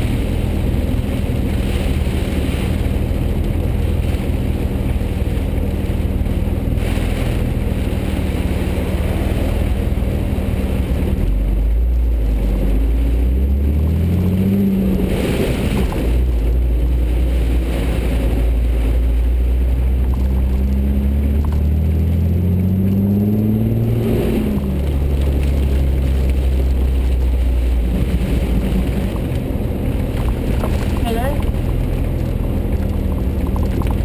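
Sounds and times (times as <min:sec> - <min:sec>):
tyres hissing on wet road: 0:00.0 - 0:34.0
vehicle engine accelerating: 0:00.0 - 0:34.0.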